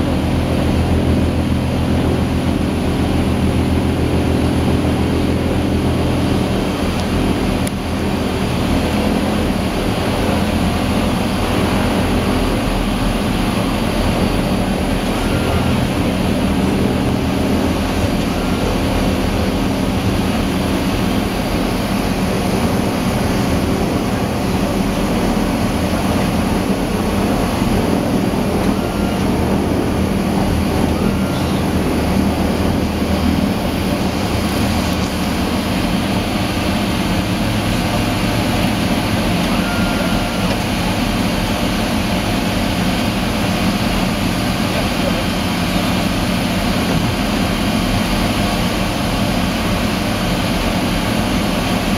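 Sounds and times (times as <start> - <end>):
turboprop engines droning: 0.0 - 51.9.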